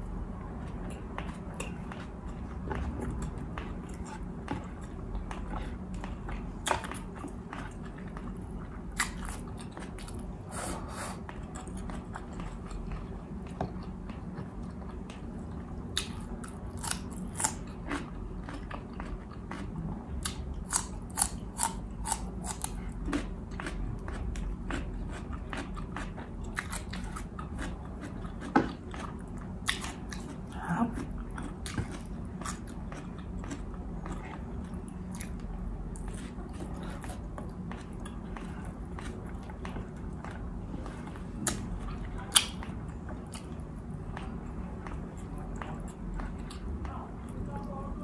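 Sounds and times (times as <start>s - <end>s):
person chewing food: 0.1s - 47.4s.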